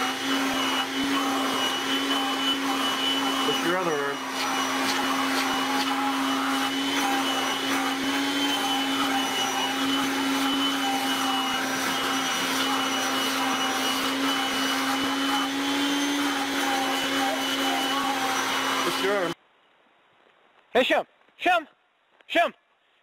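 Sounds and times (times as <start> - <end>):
small electric motor humming: 0.0 - 19.4.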